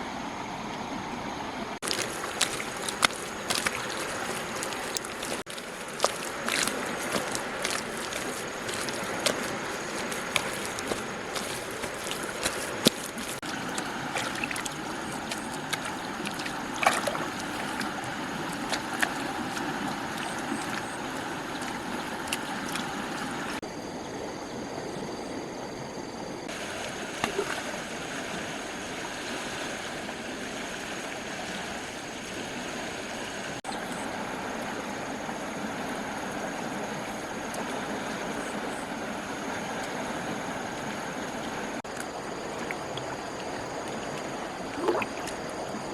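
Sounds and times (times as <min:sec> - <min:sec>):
water running and splashing: 0:01.8 - 0:23.6, 0:26.5 - 0:45.9.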